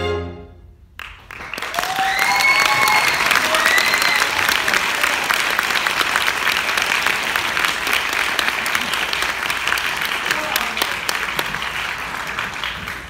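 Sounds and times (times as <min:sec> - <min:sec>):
audience applauding: 0:01.0 - 0:13.0.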